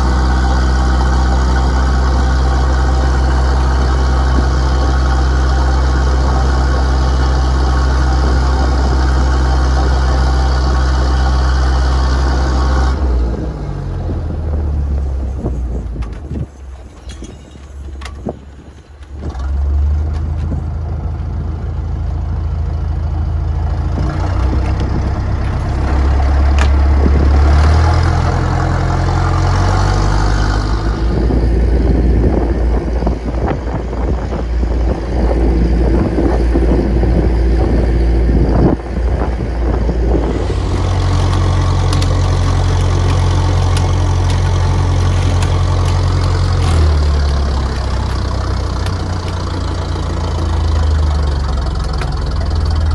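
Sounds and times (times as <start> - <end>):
boat engine droning: 0.0 - 52.9
wind: 0.0 - 52.9.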